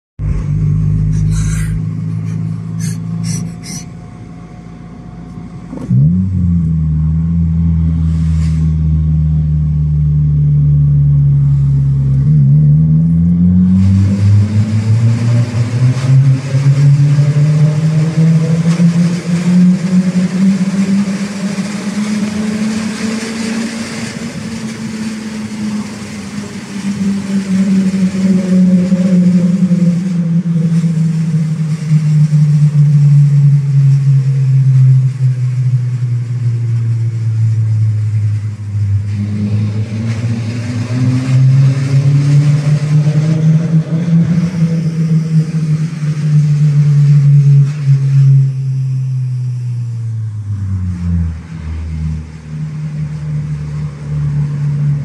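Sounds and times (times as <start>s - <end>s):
car engine accelerating: 0.2s - 55.0s
road and tunnel noise: 0.2s - 55.0s.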